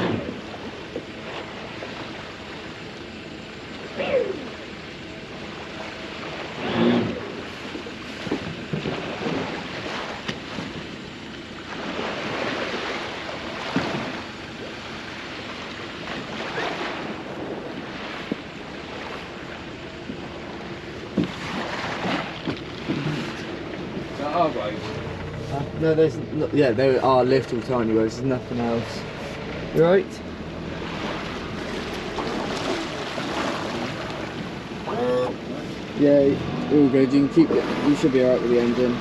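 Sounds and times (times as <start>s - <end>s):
water splashing against boat hull: 0.0s - 3.0s, 5.5s - 39.0s.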